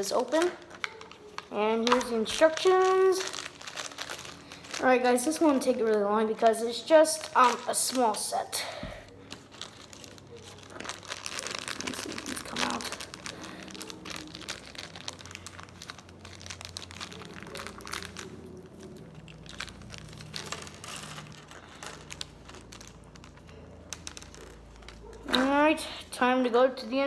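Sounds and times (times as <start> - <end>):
plastic bag crinkling: 0.0 - 26.2.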